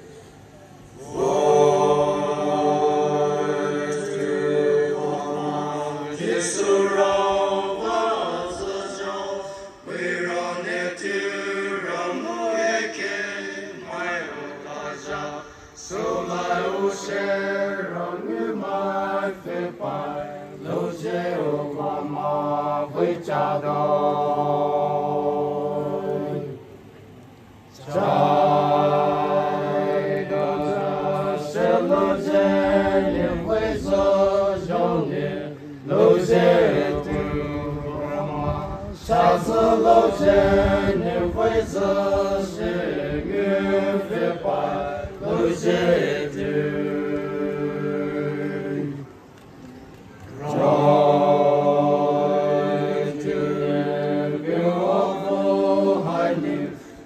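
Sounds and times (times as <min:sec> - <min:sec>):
voices chanting together: 0:00.0 - 0:26.9, 0:27.7 - 0:49.3, 0:50.2 - 0:57.0.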